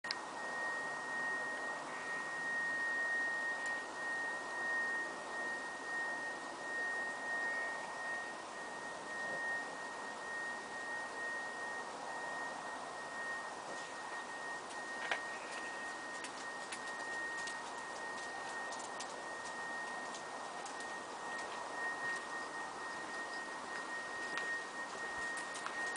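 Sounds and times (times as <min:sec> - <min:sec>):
high-pitched steady whine: 0:00.0 - 0:25.9.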